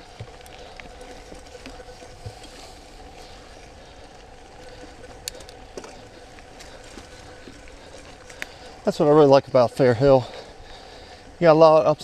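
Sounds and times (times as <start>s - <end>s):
bike clicks and knocks: 0.0s - 9.6s
bike tyre and wind noise: 0.0s - 12.0s
faint steady hum: 0.0s - 12.0s.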